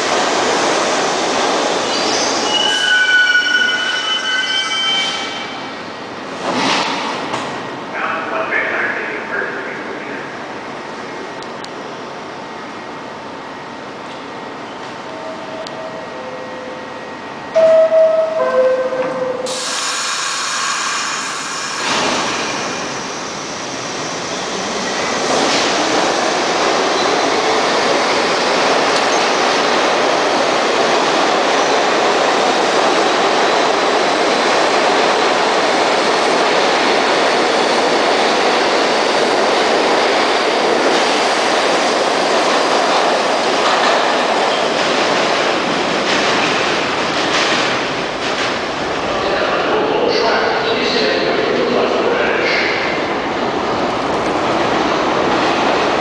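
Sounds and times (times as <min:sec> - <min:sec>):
train rumbling and rattling: 0:00.0 - 0:56.0.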